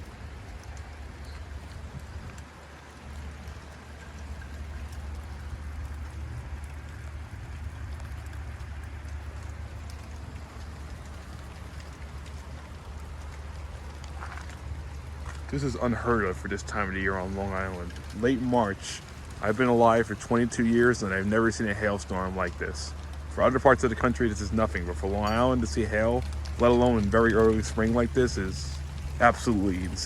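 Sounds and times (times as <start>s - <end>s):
hail and rain pattering: 0.0s - 30.0s
steady low rumble: 0.0s - 30.0s.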